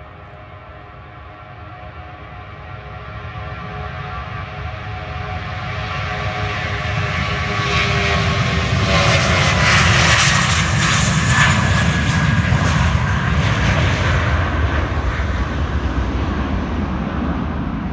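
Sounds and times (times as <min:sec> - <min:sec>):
jet engine whine: 0:00.0 - 0:17.9
jet engines roaring at takeoff: 0:00.0 - 0:17.9.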